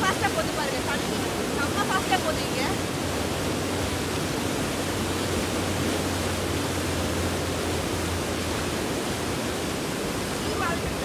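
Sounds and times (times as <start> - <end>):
river rushing over rapids: 0.0 - 11.0.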